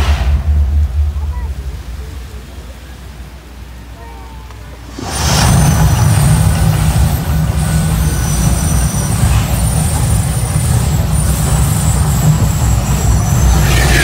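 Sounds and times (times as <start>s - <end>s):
deep rumble of eruption effect: 0.0s - 4.0s, 4.7s - 14.0s.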